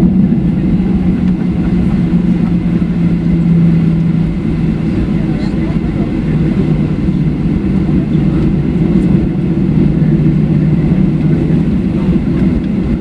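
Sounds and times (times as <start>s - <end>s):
aircraft cabin rumble while taxiing: 0.0s - 13.0s.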